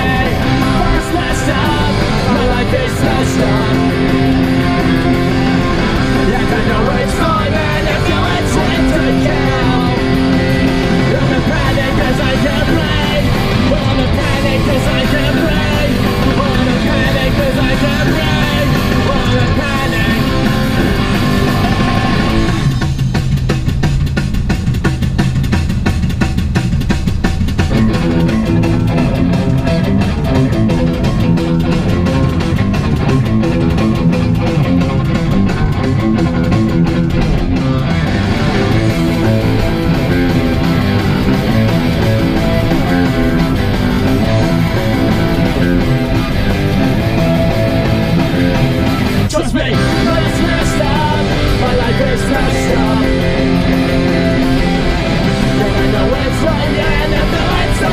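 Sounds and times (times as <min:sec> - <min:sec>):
instrumental rock music: 0:00.0 - 0:57.9.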